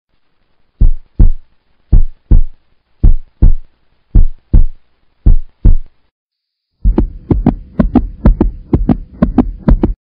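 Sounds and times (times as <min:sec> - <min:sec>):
heartbeat thumps: 0:00.8 - 0:05.9, 0:06.8 - 0:10.0.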